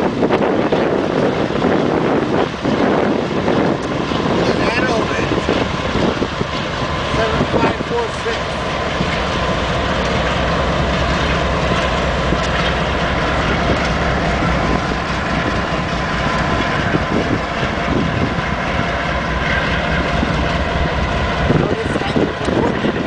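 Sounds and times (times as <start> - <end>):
diesel locomotive engine drone: 0.0 - 23.0
freight train rolling by: 0.0 - 23.0.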